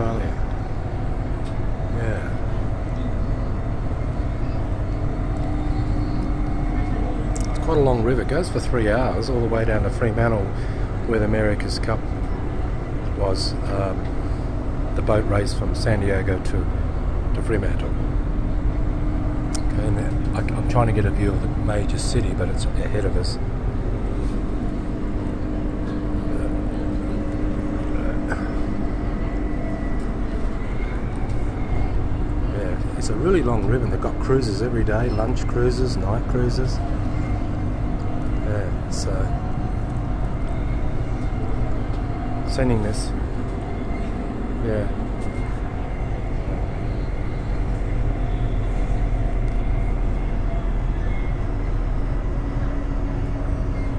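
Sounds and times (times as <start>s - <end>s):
faint high whine: 0.0s - 53.9s
steady hum: 0.0s - 53.9s
train rumble: 0.0s - 53.9s.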